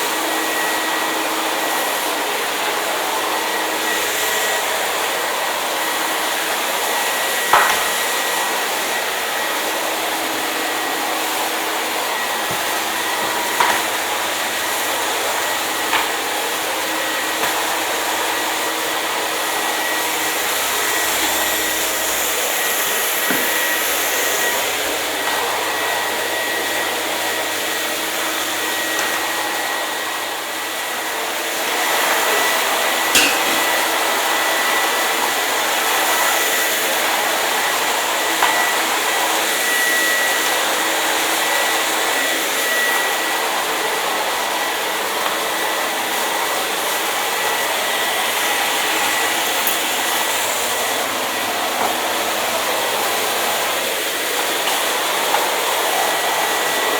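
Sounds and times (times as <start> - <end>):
hair dryer blowing air: 0.0 - 56.9.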